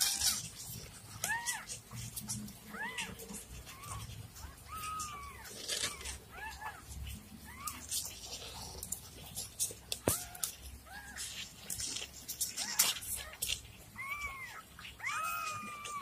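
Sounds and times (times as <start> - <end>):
kittens mewing: 0.0 - 16.0.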